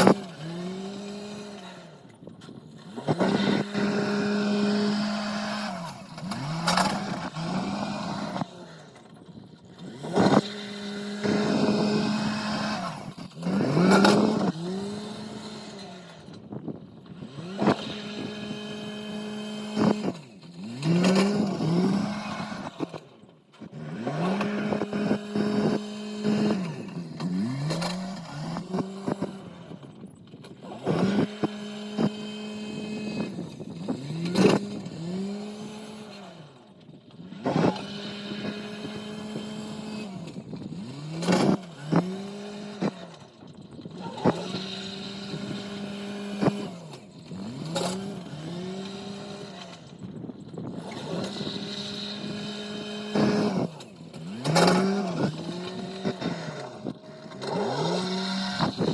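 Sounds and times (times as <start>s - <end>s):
farm machine engine revving: 0.0s - 58.9s.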